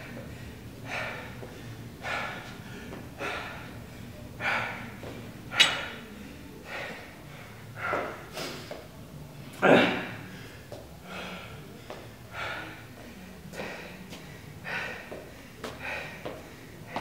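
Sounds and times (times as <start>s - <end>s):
man breathing hard: 0.0s - 8.8s, 9.8s - 17.0s.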